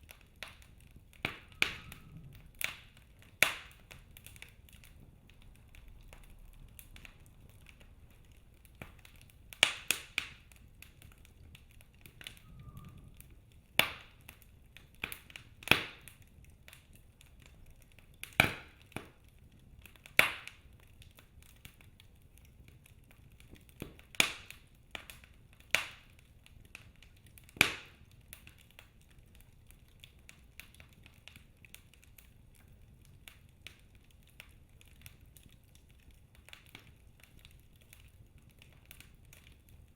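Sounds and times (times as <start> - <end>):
fire crackling and hissing: 0.0 - 39.9
fire logs popping and snapping: 0.0 - 39.9.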